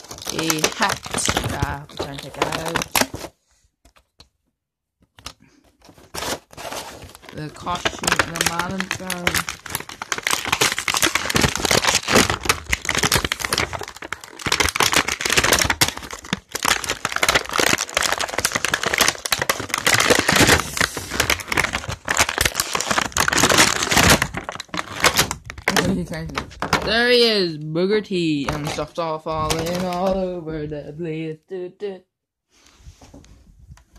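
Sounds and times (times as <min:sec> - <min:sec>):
toy packaging crinkling and tearing: 0:00.0 - 0:04.3, 0:05.1 - 0:27.1, 0:28.4 - 0:30.2.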